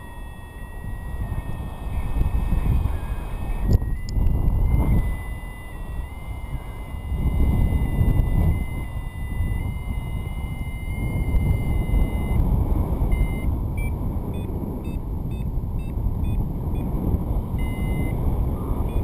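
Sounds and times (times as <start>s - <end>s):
variometer electronic tones and beeps: 0.0s - 19.0s
wind buffeting microphone: 0.0s - 19.0s.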